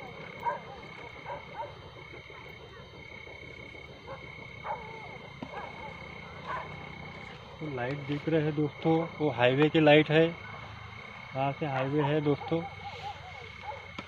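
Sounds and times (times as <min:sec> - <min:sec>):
distant dogs barking: 0:00.0 - 0:14.0
night insects droning: 0:00.0 - 0:14.0.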